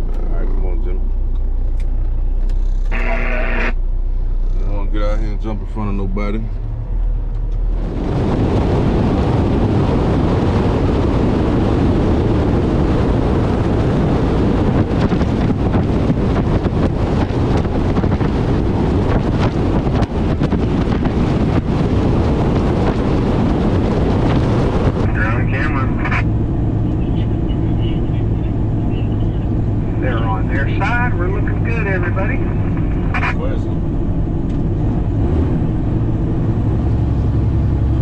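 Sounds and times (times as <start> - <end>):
truck rumble: 0.0 - 38.0
wind buffeting microphone: 6.6 - 38.0.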